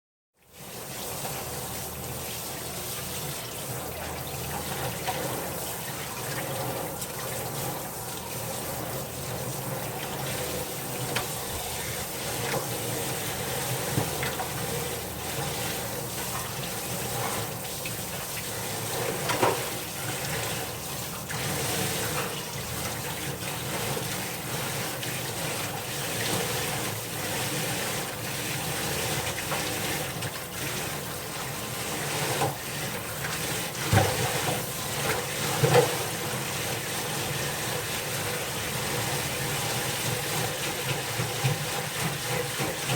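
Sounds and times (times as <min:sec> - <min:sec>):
tap water running and splashing: 0:00.4 - 0:42.9.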